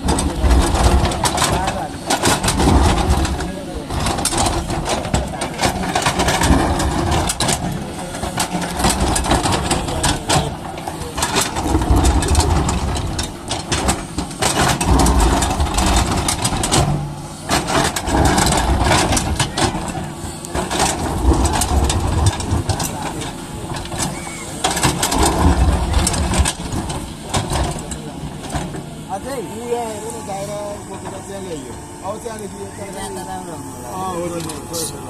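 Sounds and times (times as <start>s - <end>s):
sharp knocks and clatter: 0.0s - 29.3s
excavator diesel engine: 0.0s - 35.0s.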